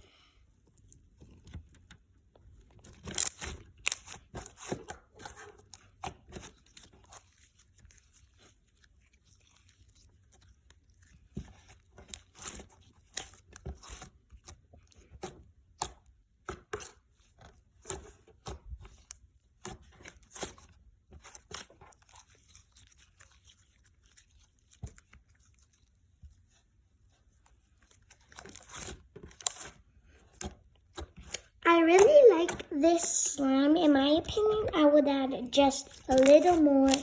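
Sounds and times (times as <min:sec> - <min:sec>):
hands squishing sticky slime: 0:02.8 - 0:37.0.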